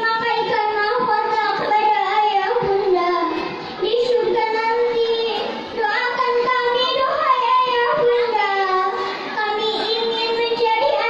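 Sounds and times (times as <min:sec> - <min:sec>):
girl singing through loudspeaker: 0:00.0 - 0:11.0.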